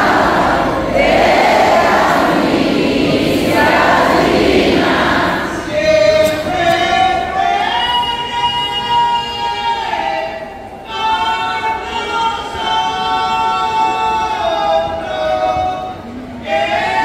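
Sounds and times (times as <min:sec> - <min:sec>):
crowd singing and chanting: 0:00.0 - 0:17.0.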